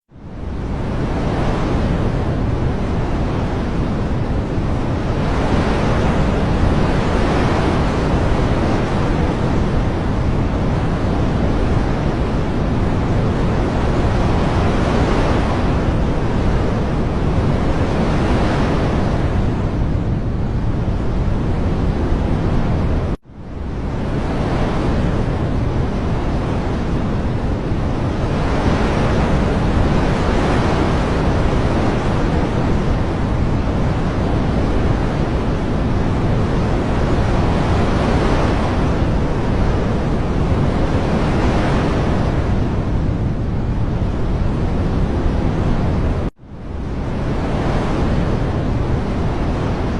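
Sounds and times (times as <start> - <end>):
rushing nature ambience: 0.2 - 49.9.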